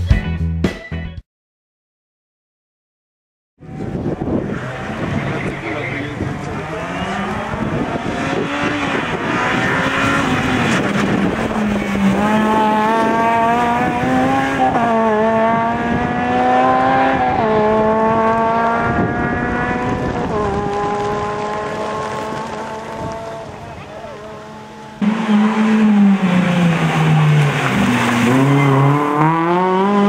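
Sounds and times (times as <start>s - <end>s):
car engine accelerating hard: 3.6s - 30.0s.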